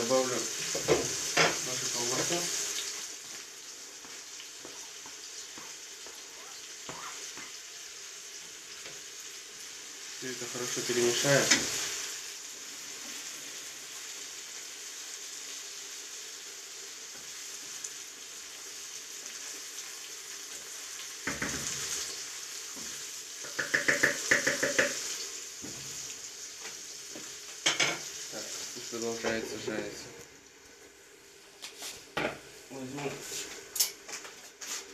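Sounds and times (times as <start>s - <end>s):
food sizzling in a frying pan: 0.0s - 34.9s.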